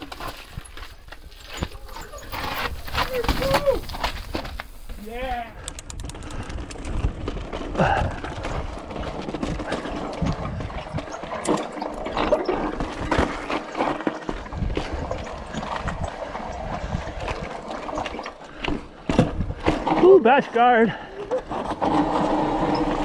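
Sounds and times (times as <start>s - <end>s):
bike knocks and rattles: 0.0s - 5.0s, 5.6s - 20.3s
bike tyres rolling over rock: 0.0s - 23.0s.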